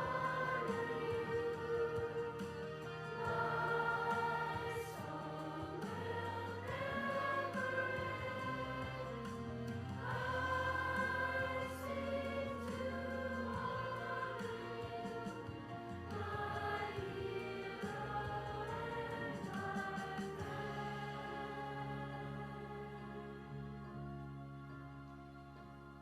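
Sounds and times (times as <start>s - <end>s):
choir singing: 0.0s - 26.0s
low accompaniment: 0.0s - 26.0s.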